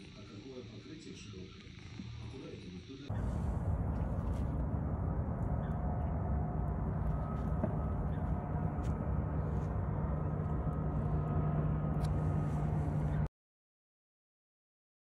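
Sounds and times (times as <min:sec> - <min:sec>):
faint hum: 0:00.0 - 0:13.3
outdoor background rumble: 0:00.0 - 0:13.3.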